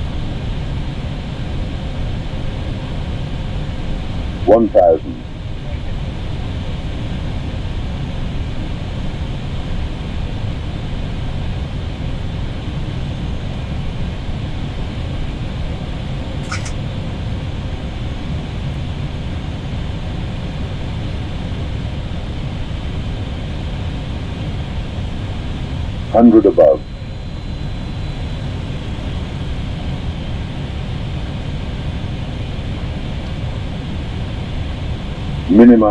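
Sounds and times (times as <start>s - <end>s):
cockpit airflow and engine hum: 0.0s - 35.9s.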